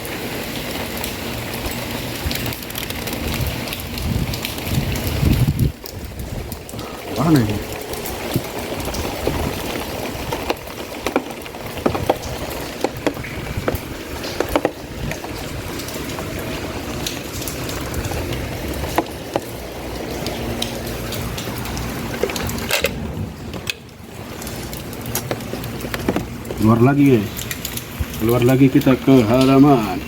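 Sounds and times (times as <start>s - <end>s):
heavy rain in strong wind: 0.0s - 30.0s
raindrops tapping microphone: 0.0s - 30.0s.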